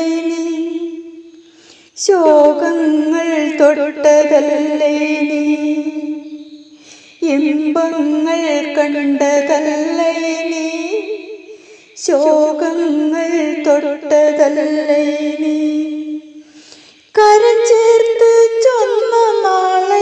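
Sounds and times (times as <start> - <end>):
woman singing: 0.0 - 1.4, 2.0 - 16.4, 17.1 - 20.0.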